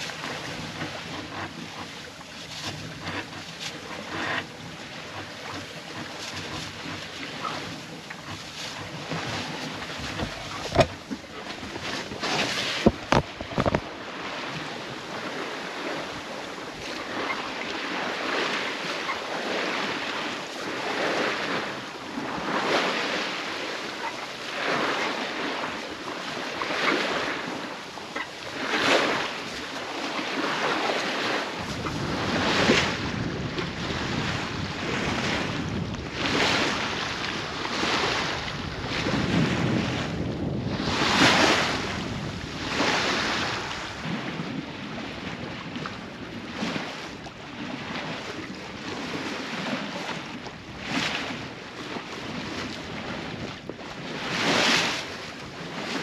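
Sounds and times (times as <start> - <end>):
water splashing along a hull: 0.0 - 56.0
wind buffeting the microphone: 0.0 - 56.0.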